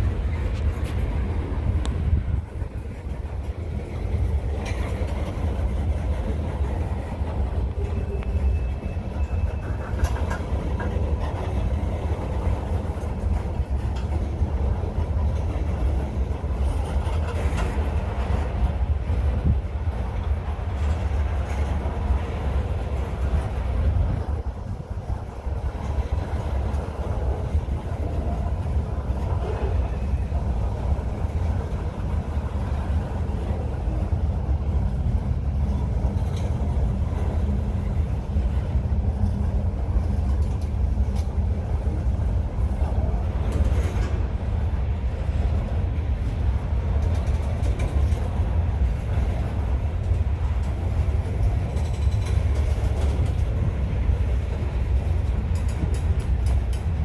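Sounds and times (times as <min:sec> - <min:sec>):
freight train rumbling past: 0:00.0 - 0:57.0
train wheels clicking: 0:00.0 - 0:57.0.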